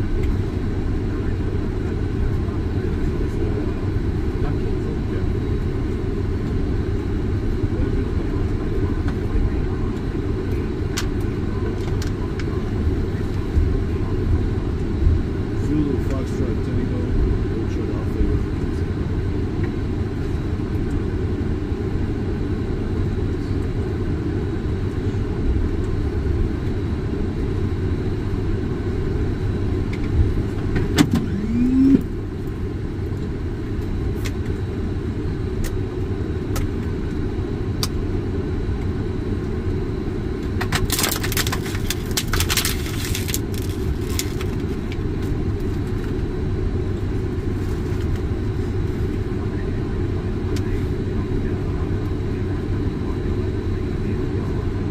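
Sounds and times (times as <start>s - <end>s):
aircraft taxiing rumble: 0.0s - 54.9s.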